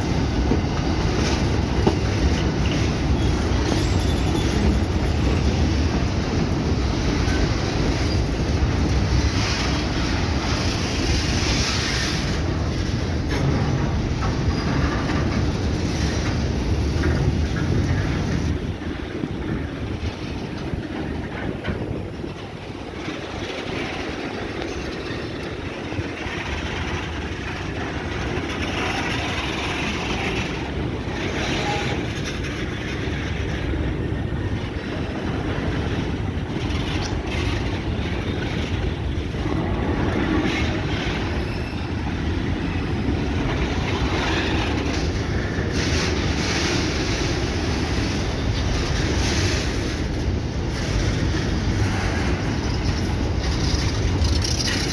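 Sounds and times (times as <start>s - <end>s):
freight train rolling past: 0.0s - 54.9s
wheels clicking over rail joints: 0.0s - 54.9s.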